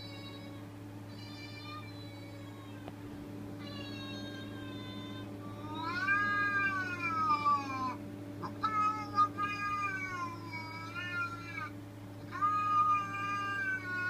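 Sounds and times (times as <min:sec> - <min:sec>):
cat meowing through speaker: 0:00.0 - 0:02.9, 0:03.6 - 0:11.7, 0:12.3 - 0:14.0
steady low hum: 0:00.0 - 0:14.0.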